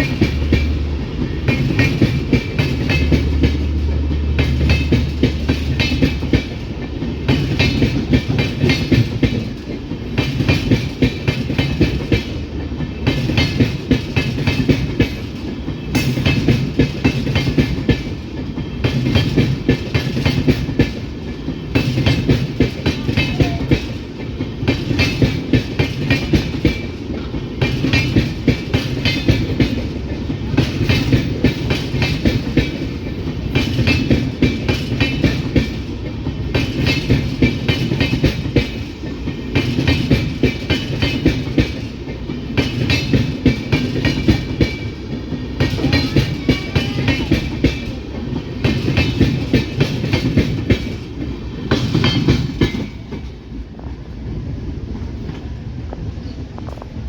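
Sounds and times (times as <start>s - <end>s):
low train rumble: 0.0s - 57.0s
train wheels clattering over rail joints: 0.0s - 57.0s.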